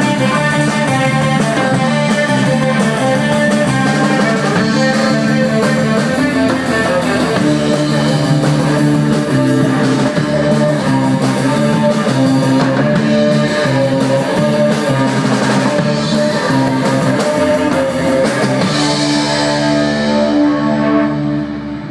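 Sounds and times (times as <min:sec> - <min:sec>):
drums: 0:00.0 - 0:21.9
electric guitar: 0:00.0 - 0:21.9.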